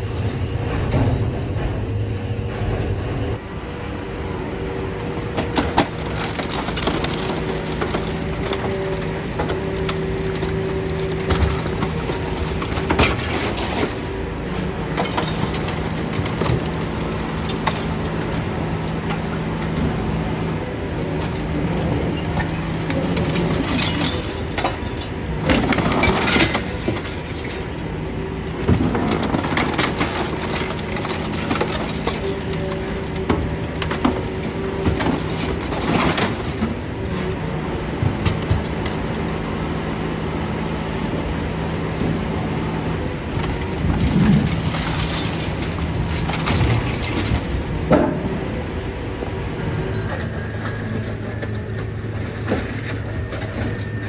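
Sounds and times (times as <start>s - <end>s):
hydraulic machine drone: 0.0s - 54.0s
scrap metal crunching and knocking: 3.0s - 54.0s.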